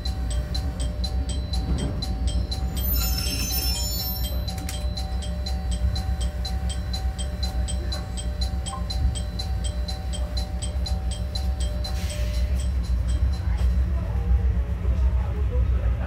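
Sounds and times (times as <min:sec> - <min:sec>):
music with ticking beat: 0:00.0 - 0:14.0
railcar engine rumble: 0:00.0 - 0:16.0.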